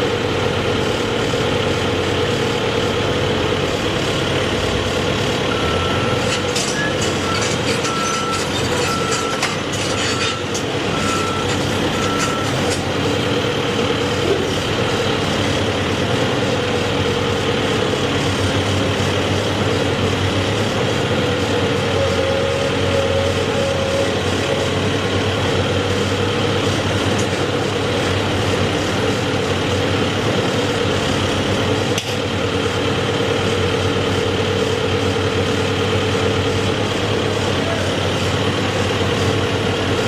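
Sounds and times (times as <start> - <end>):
heavy engine idling: 0.0 - 40.0.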